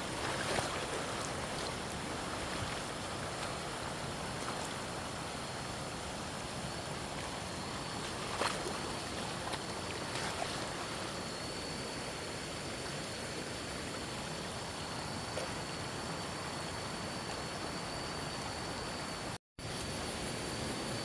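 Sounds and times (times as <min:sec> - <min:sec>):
running water: 0:00.0 - 0:18.5.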